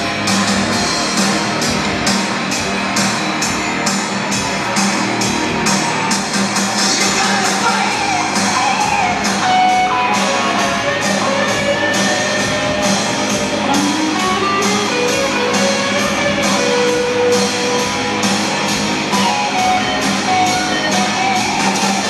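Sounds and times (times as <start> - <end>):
distorted electric guitars: 0.0 - 22.0
steady drum beat: 0.0 - 22.0.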